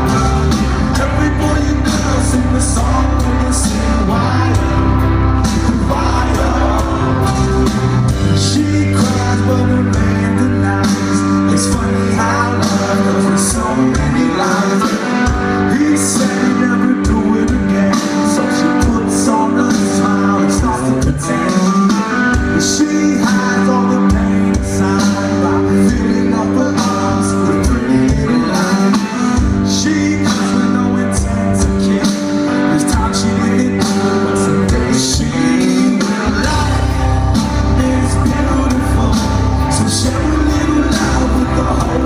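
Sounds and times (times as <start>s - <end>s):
drums: 0.0s - 42.0s
electric guitar: 0.0s - 42.0s
person singing: 0.0s - 42.0s.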